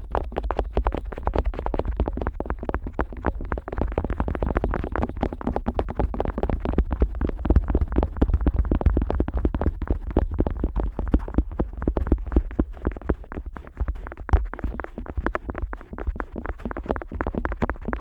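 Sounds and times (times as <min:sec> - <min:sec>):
otoscope rubbing and tapping: 0:00.2 - 0:18.0.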